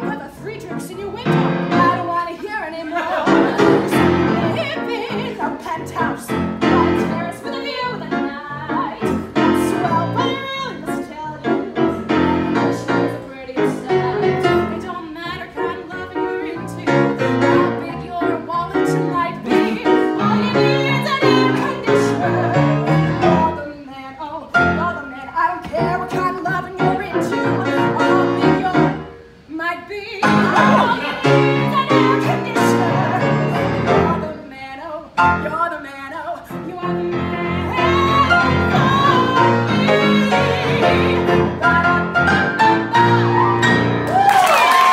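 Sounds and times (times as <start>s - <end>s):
grand piano accompaniment: 0.0s - 29.5s, 30.2s - 44.9s
woman singing: 0.0s - 43.8s.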